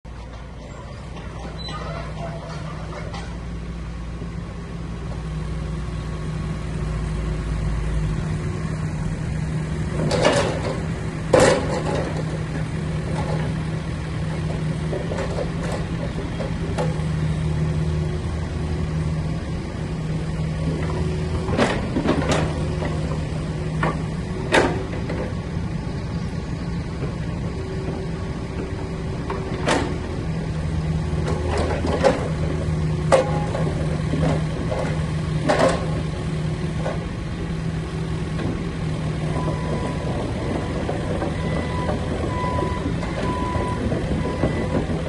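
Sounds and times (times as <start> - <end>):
excavator diesel engine humming: 0.1 - 45.0.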